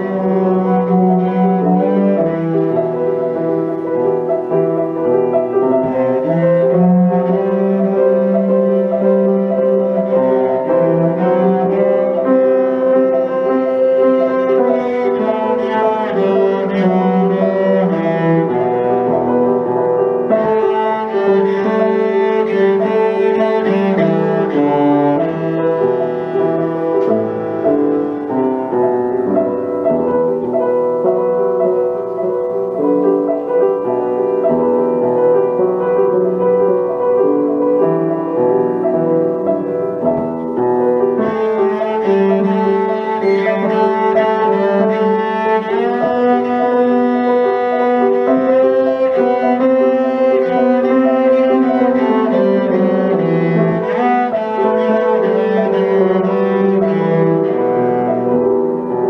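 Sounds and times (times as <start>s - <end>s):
cello bowed notes: 0.0s - 59.0s
piano: 0.0s - 59.0s.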